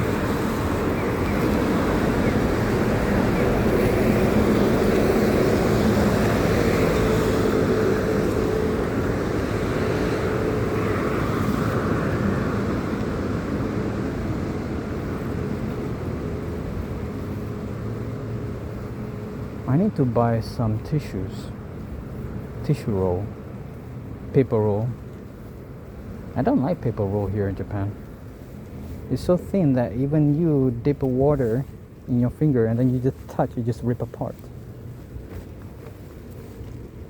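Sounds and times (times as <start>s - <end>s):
bicycle road noise: 0.0s - 37.0s.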